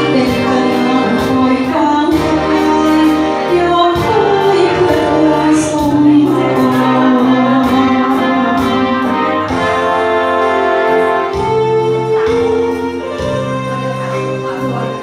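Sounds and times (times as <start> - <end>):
amplified instrumental accompaniment: 0.0 - 15.0
woman singing into microphone: 0.0 - 15.0.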